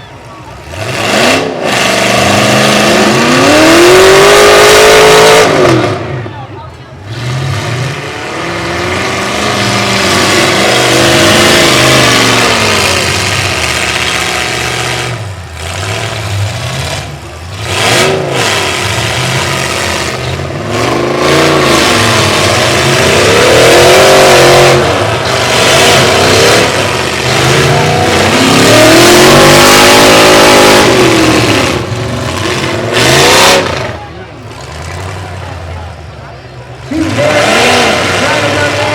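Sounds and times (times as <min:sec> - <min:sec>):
truck engines revving hard: 0:00.0 - 0:38.9.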